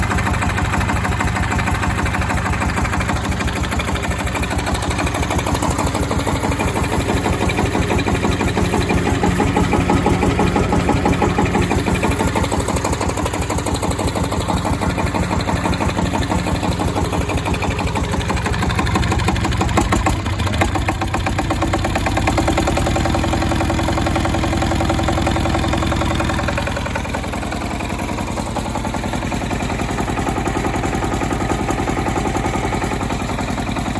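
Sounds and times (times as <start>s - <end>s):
engine driving generator: 0.0s - 33.9s.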